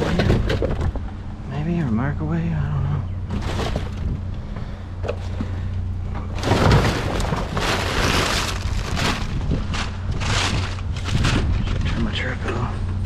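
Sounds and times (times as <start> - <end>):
junk clattering and scraping: 0.0 - 2.3, 2.9 - 13.0
truck engine idling: 0.0 - 13.0.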